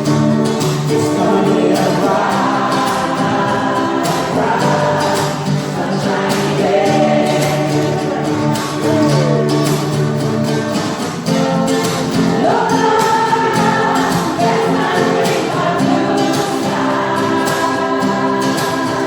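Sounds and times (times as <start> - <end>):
choir singing gospel music: 0.0 - 19.0.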